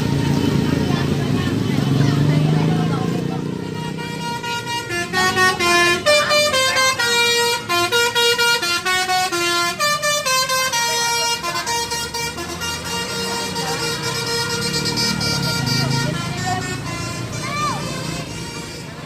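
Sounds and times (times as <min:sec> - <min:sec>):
bus musical horn playing tune: 0:00.0 - 0:19.0.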